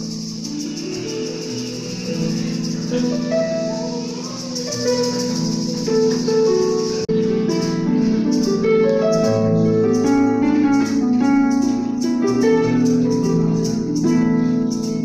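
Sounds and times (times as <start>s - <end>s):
harp melody: 0.0s - 15.0s.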